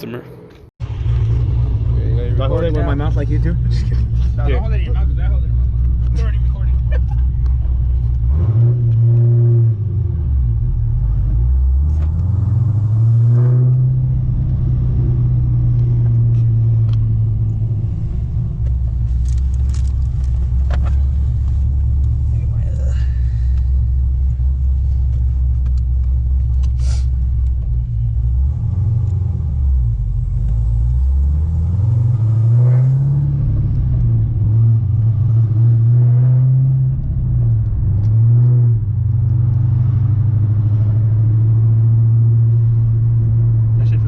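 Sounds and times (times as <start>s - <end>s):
car engine accelerating: 0.3s - 44.0s.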